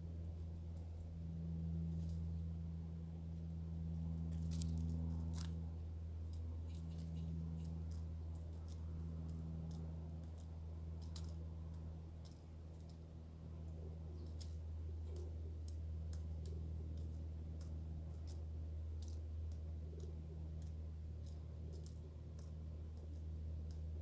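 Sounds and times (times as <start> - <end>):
steady low hum: 0.0 - 24.0
birds pecking at food: 4.2 - 24.0.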